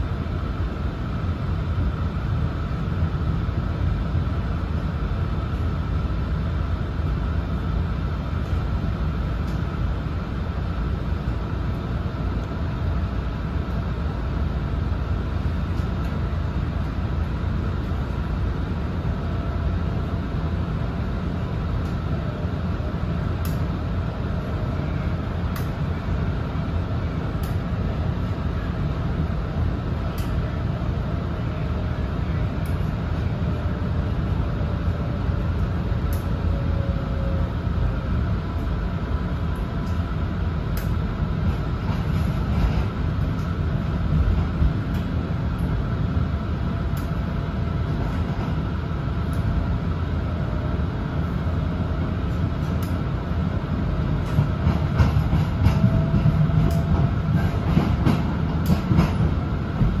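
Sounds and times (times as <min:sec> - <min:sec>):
wheels rumbling on rail: 0:00.0 - 1:00.0.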